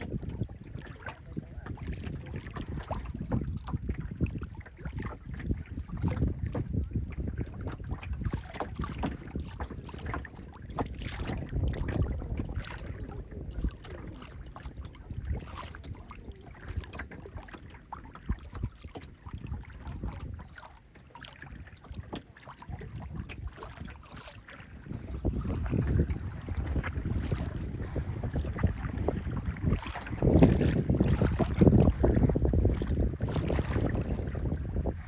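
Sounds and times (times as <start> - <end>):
water noise: 0.0 - 35.0
wind buffeting microphone: 0.0 - 35.0.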